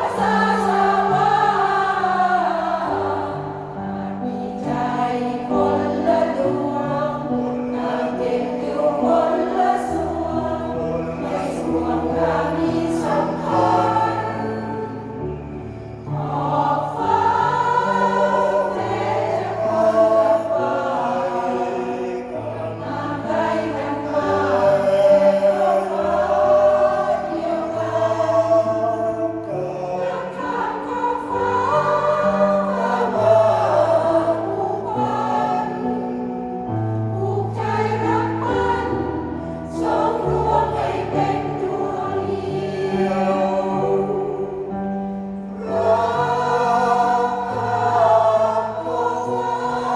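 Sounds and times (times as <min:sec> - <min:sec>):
choir singing: 0:00.0 - 0:49.9.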